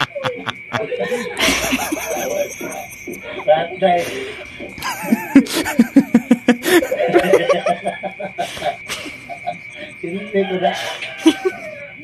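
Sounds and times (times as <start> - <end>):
people laughing hard: 0.0 - 12.0.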